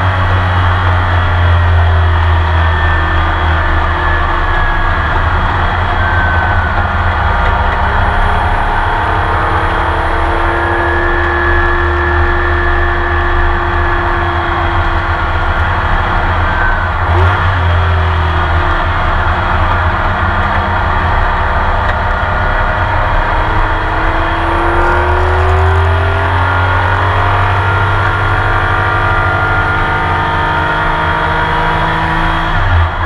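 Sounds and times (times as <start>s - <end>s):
racing engine drone: 0.0s - 33.0s.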